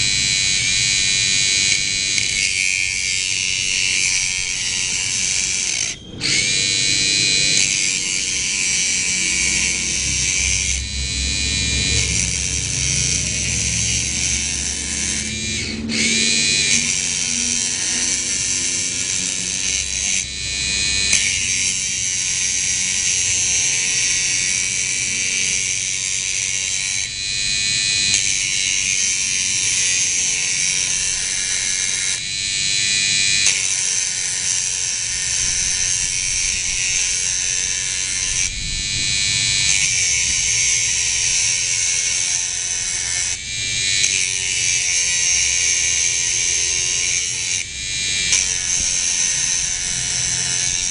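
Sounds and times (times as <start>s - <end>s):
electric grinder whining: 0.0s - 50.9s.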